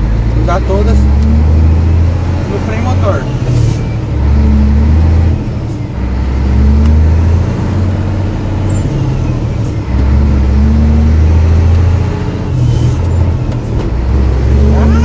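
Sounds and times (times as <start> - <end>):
diesel engine braking drone: 0.0 - 15.0.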